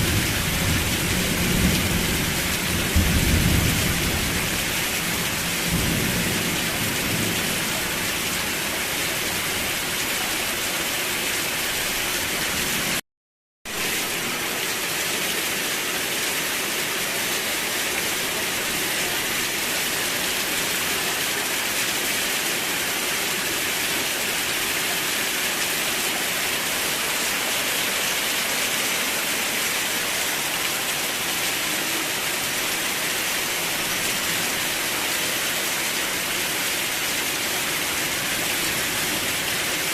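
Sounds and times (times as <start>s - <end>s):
heavy rain: 0.0s - 13.0s, 13.7s - 39.9s.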